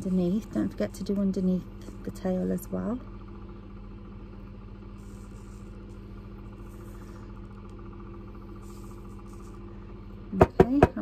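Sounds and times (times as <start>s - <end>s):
low hum with held tones: 0.0s - 11.0s.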